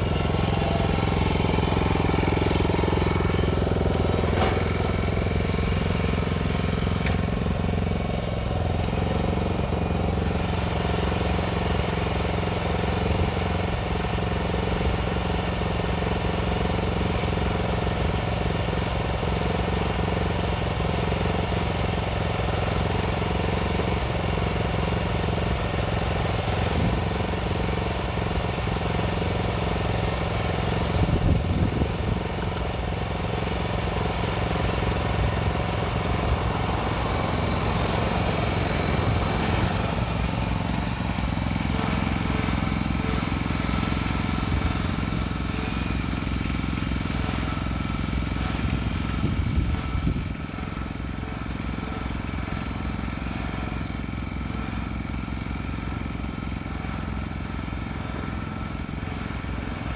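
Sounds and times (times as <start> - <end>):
small engine running under load: 0.0 - 59.9.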